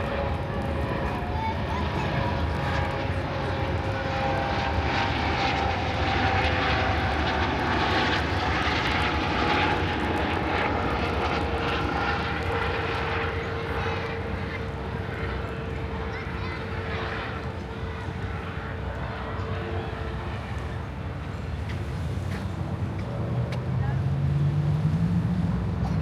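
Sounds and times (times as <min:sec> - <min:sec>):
aircraft engine passing over: 0:00.0 - 0:26.0.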